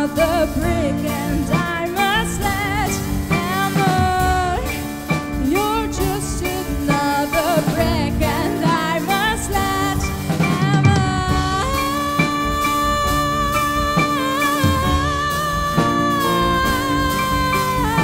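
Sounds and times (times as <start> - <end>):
drum kit: 0.0 - 18.0
piano chords: 0.0 - 18.0
woman singing with vibrato: 0.0 - 18.0.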